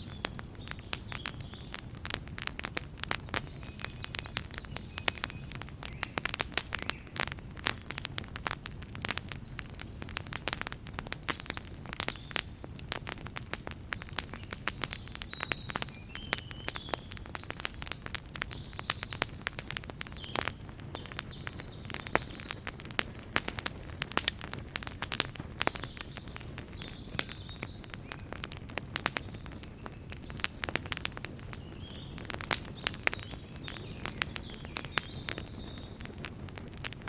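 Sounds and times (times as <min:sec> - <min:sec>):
bonfire crackling and popping: 0:00.0 - 0:37.0.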